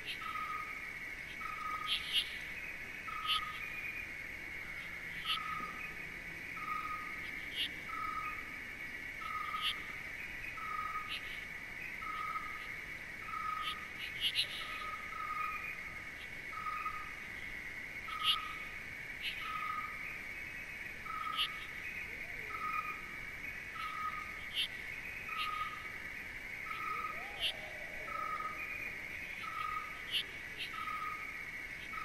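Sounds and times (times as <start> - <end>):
insect trill: 0.0 - 32.0.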